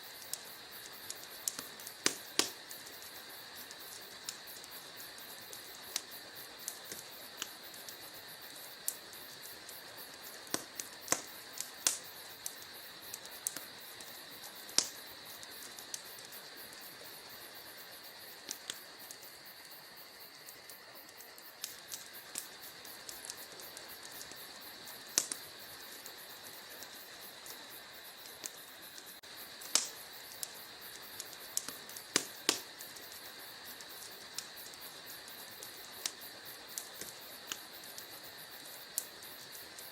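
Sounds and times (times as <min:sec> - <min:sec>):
soft fire hiss: 0:00.0 - 0:39.9
wood fire crackling: 0:00.0 - 0:39.9
fire pops and snaps: 0:00.1 - 0:39.9.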